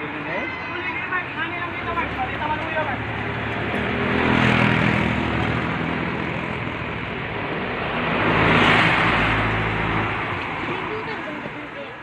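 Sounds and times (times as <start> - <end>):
tyre and road noise: 0.0 - 12.0
vehicle passing: 0.8 - 12.0
truck engine passing: 1.0 - 11.8.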